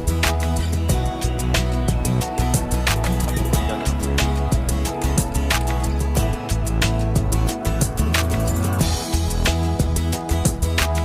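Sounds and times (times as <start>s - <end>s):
guitar music with beat and bass: 0.0s - 11.0s.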